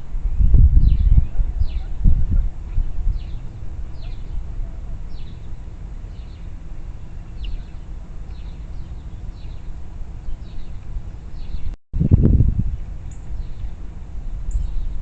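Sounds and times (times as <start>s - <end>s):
steady low rumble: 0.0s - 15.0s
songbird chirping: 0.5s - 11.8s, 12.8s - 15.0s.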